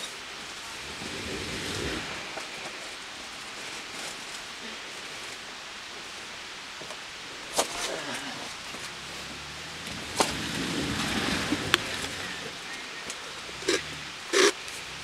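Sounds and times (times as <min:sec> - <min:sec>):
car engine running under load: 0:00.0 - 0:15.0
steady background hiss: 0:00.0 - 0:15.0.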